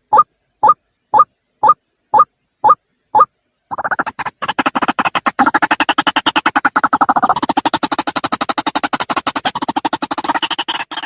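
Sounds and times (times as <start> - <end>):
bird calling harsh repeated notes: 0.0 - 11.0.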